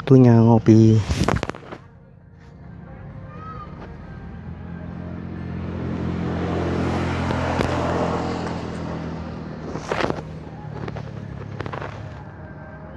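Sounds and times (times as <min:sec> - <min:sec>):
engine passing by: 0:02.3 - 0:12.9.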